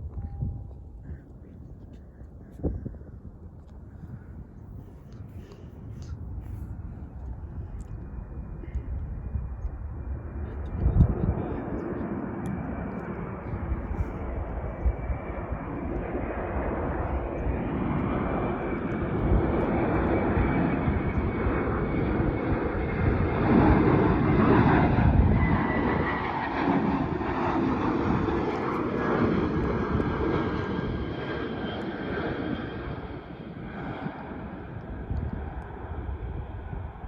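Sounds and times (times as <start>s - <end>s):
jet airliner passing: 0.0s - 37.0s
jet engine high whine: 0.0s - 37.0s.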